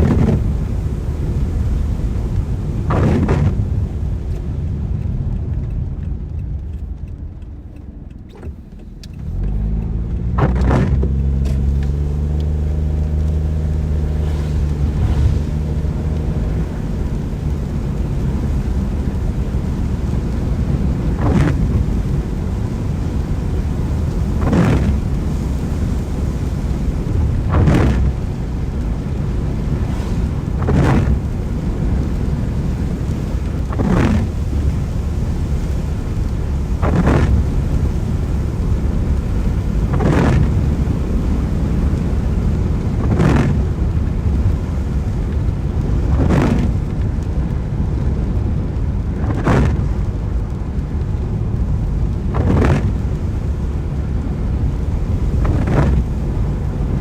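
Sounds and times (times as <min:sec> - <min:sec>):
car engine accelerating: 0:00.0 - 0:50.9
road noise in rain: 0:00.0 - 0:57.0
windscreen wipers swishing: 0:00.0 - 0:57.0.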